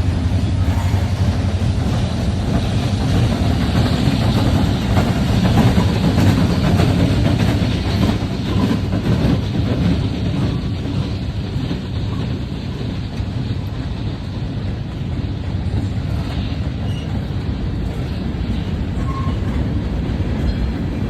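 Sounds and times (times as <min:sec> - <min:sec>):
freight train rumbling past: 0:00.0 - 0:21.0
wheels clicking over rails: 0:00.2 - 0:21.0.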